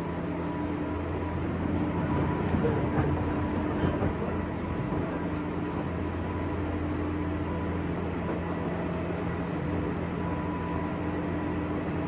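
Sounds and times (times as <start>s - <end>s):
train running gear hum: 0.0s - 12.0s
train wheels rumbling on rail: 0.0s - 12.0s.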